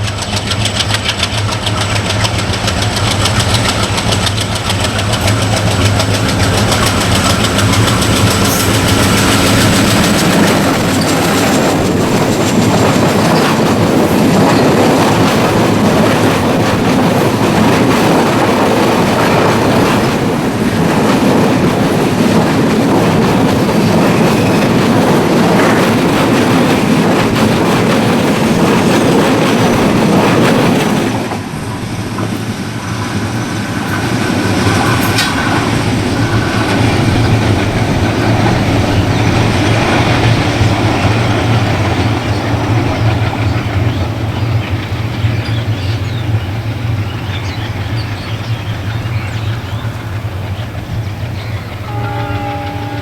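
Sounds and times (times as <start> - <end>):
train rumbling past: 0.0 - 53.0
wheels clacking over rail joints: 0.0 - 53.0.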